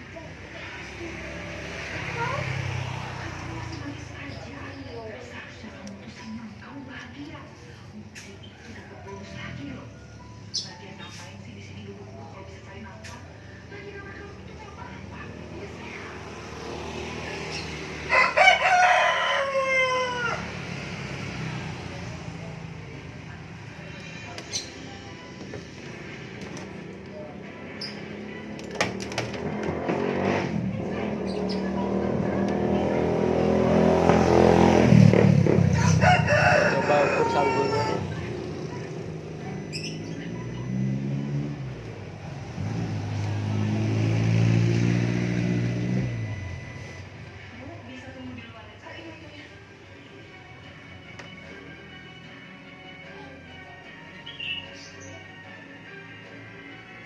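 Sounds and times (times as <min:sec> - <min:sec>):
vehicle engine running: 0:00.0 - 0:18.1, 0:20.4 - 0:49.3.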